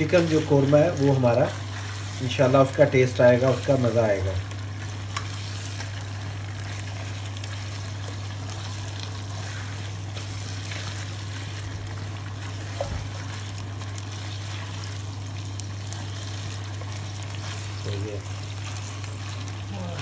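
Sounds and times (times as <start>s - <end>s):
chicken sizzling in hot oil: 0.0s - 20.0s
steady low hum: 0.0s - 20.0s.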